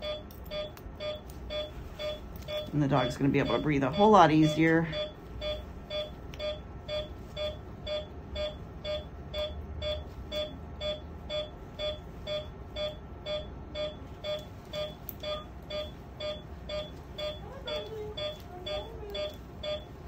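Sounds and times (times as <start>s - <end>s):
low room hum: 0.0s - 20.0s
monitor beeping: 0.0s - 20.0s.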